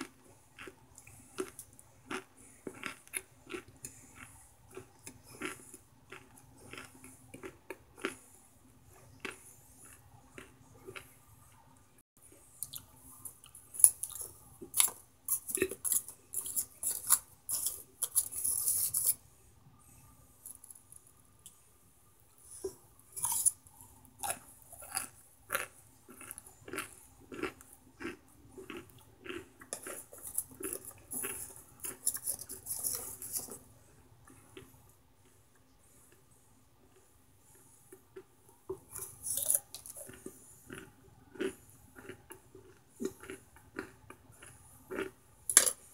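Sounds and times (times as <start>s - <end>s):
crunchy food chewing: 0.0s - 11.2s, 12.3s - 19.2s, 22.5s - 33.6s, 36.8s - 45.8s.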